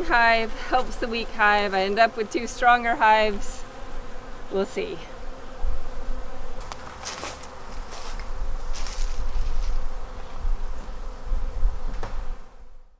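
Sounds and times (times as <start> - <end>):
honeybees buzzing: 0.0 - 12.9.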